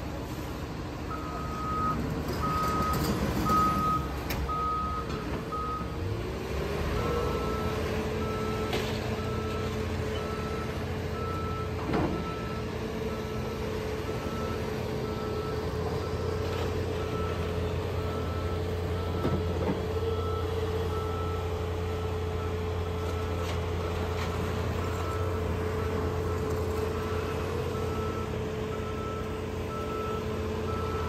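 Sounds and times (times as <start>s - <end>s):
diesel machine engines running: 0.0s - 31.0s.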